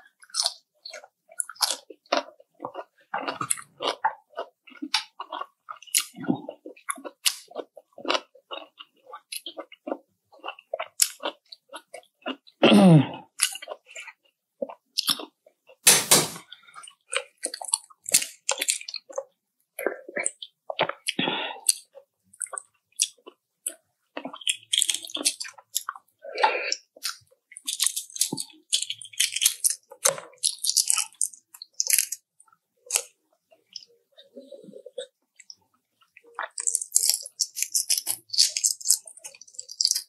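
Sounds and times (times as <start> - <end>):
person chewing and crunching food: 0.0 - 40.0.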